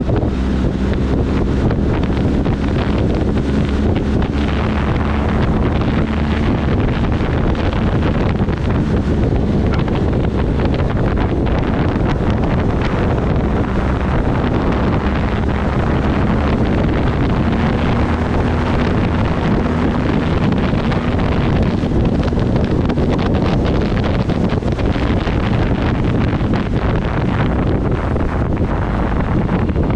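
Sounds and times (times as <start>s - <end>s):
motorcycle engine drone: 0.0s - 29.9s
wind buffeting microphone: 0.0s - 29.9s.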